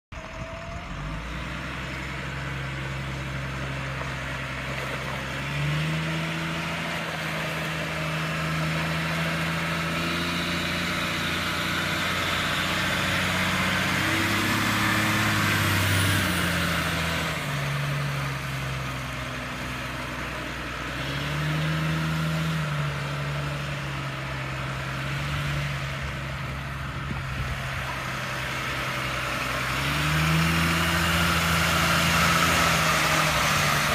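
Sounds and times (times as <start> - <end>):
truck diesel engine passing: 0.2 - 33.9.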